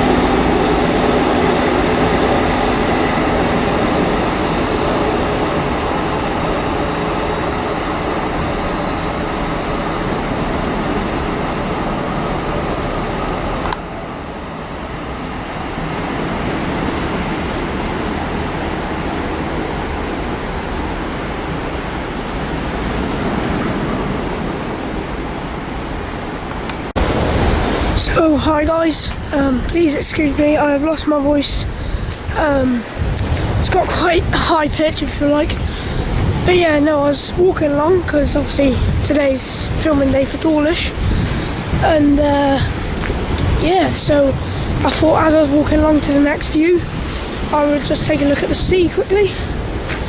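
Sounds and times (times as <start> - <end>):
steady rushing noise: 0.0 - 50.0
train engine: 0.0 - 50.0.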